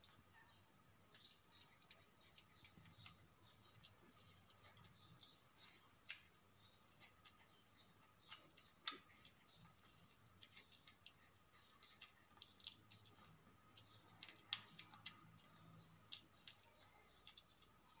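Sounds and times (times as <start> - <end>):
kitten chewing food: 0.0 - 18.0.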